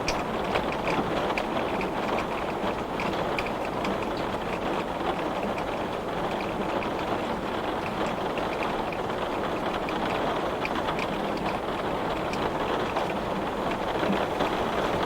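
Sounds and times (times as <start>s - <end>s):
heavy rain on a window: 0.0s - 15.0s.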